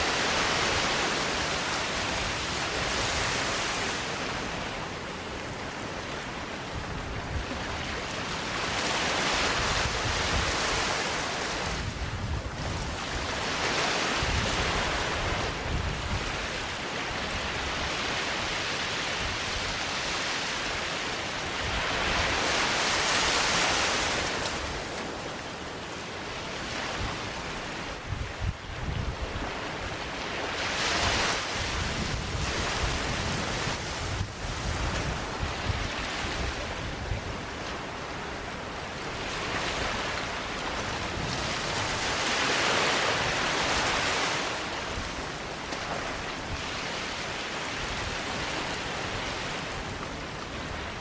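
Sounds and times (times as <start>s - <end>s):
sea waves washing onto beach: 0.0s - 51.0s
wind rumble on microphone: 0.0s - 51.0s.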